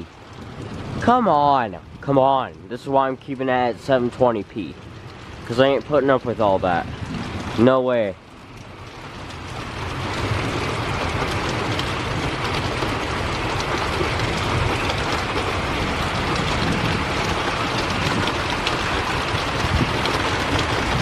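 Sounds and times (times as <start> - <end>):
heavy rain falling: 0.0 - 21.0
raindrops hitting surfaces: 0.0 - 21.0
low rumble: 3.9 - 21.0.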